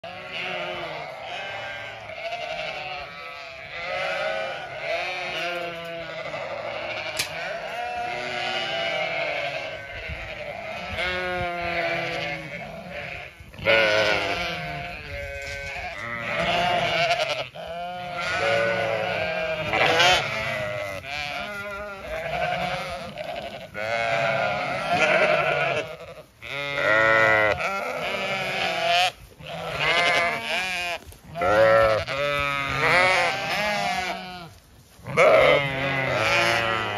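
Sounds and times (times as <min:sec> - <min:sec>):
sheep bleating: 0:00.0 - 0:36.9.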